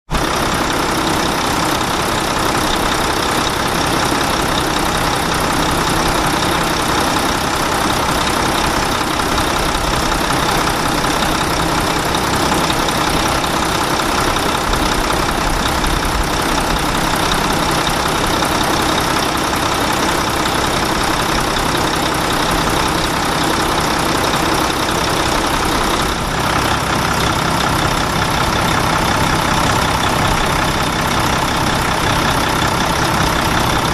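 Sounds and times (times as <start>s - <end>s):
truck engine running: 0.1s - 33.9s.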